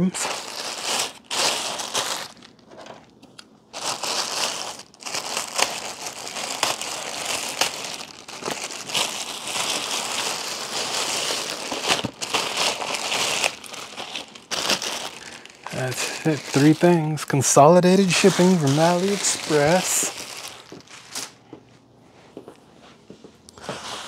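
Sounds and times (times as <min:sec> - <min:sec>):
plastic packaging crinkling: 0:00.0 - 0:21.5.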